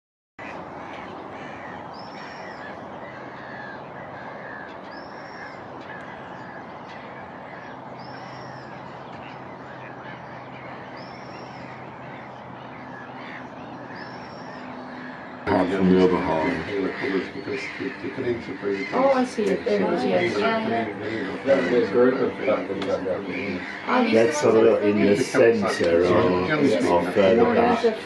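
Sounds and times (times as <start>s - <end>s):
steady background noise: 0.4s - 28.0s
wetland birds calling: 0.4s - 28.0s.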